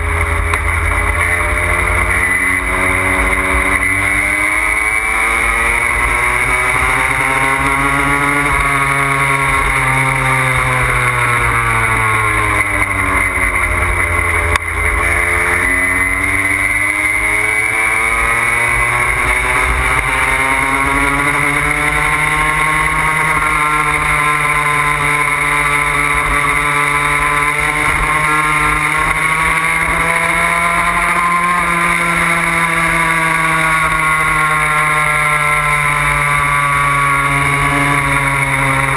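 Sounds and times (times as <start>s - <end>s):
moped engine running: 0.0s - 38.9s.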